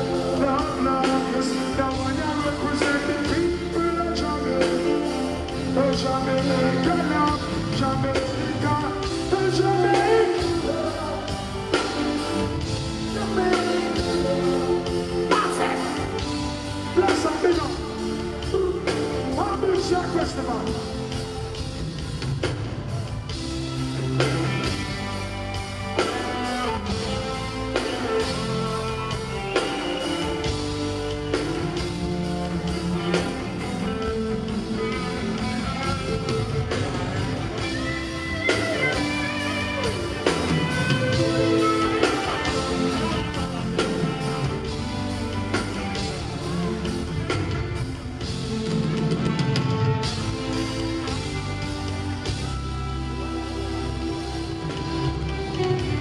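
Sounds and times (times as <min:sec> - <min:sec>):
loud reggae instrumental music: 0:00.0 - 0:56.0.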